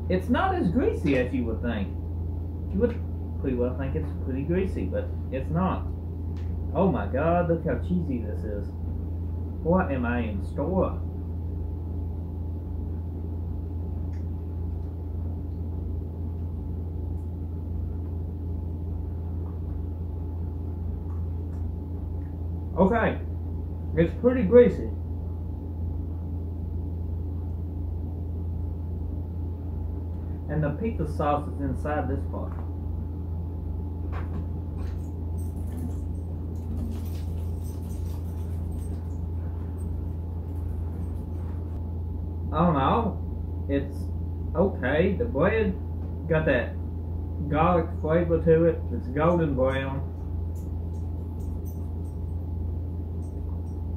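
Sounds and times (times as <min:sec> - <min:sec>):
low background hum: 0:00.0 - 0:53.9.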